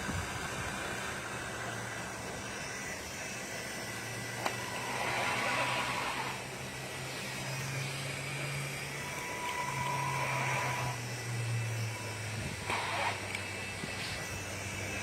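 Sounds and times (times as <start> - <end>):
toy truck motor whining: 0.0 - 15.0.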